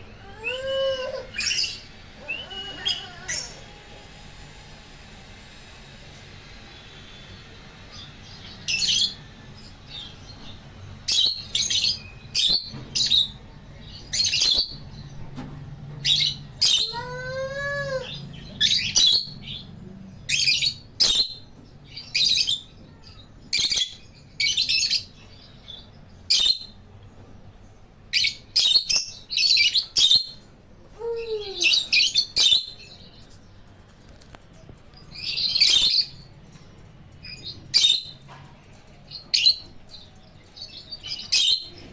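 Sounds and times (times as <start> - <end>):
birds chirping shrilly: 0.2 - 4.2, 6.7 - 15.1, 16.0 - 26.8, 28.1 - 33.5, 34.9 - 36.4, 37.2 - 38.3, 39.2 - 41.9.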